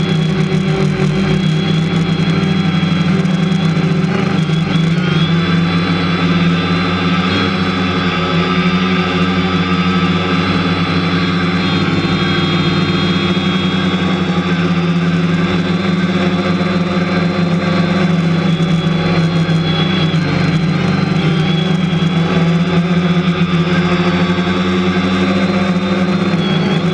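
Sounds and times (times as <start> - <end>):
drone propellers buzzing: 0.0 - 26.9.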